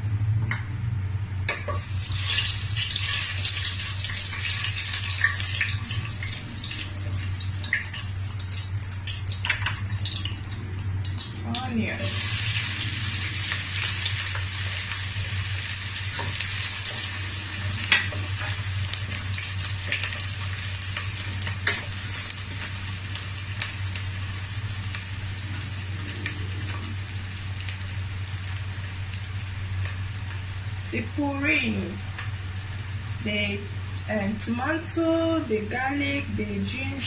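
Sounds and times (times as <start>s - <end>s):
onions sizzling in oil: 1.5s - 37.0s.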